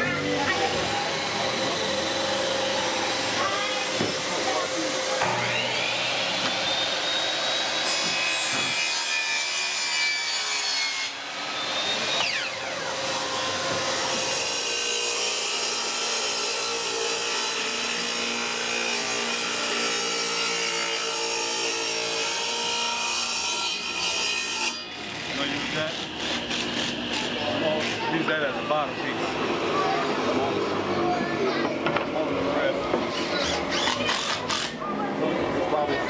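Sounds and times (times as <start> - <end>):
saw cutting through wood: 0.0 - 36.0.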